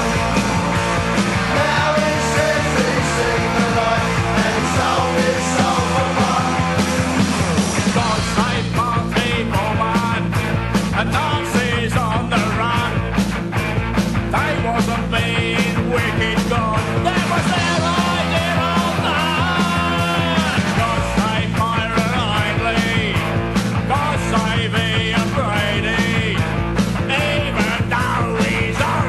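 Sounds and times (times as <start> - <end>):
fast drum hits: 0.0 - 29.0
low bass: 0.0 - 29.0
person singing: 1.4 - 10.3, 11.0 - 13.0, 14.3 - 23.2, 23.9 - 26.4, 27.1 - 29.0.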